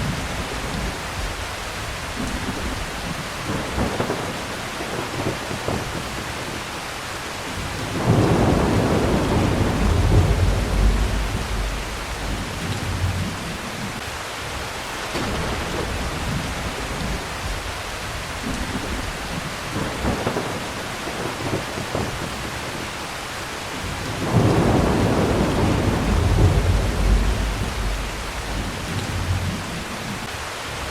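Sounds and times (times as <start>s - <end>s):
thunder rumbling: 0.0s - 6.7s, 7.5s - 14.0s, 15.1s - 22.8s, 23.8s - 30.3s
heavy rain: 0.0s - 30.9s.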